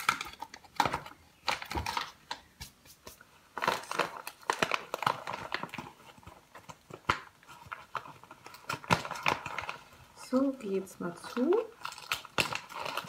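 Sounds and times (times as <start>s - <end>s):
paper packaging crinkling: 0.0s - 13.0s.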